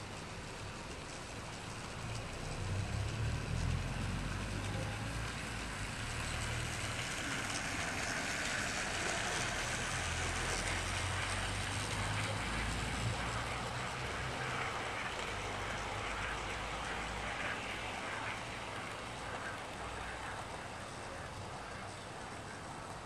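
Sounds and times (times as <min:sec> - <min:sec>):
model train motor whirring: 0:00.0 - 0:23.0.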